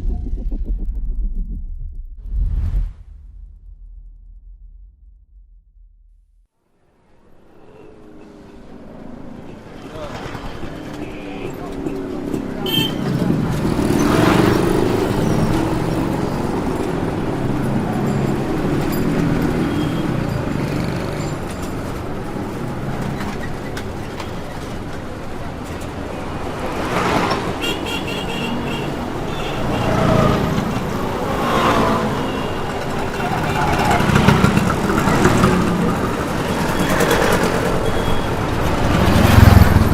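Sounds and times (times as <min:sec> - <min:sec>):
rumble of traffic engines: 0:06.8 - 0:39.9
vehicles passing with tyre hiss: 0:06.8 - 0:39.9.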